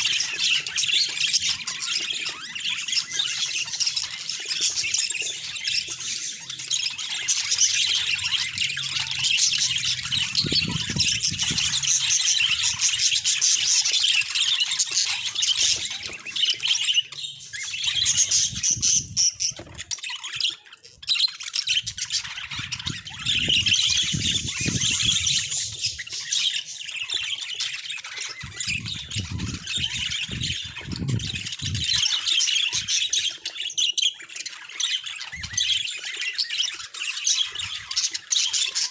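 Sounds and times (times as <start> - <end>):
budgerigar chattering and warbling: 0.0 - 38.9.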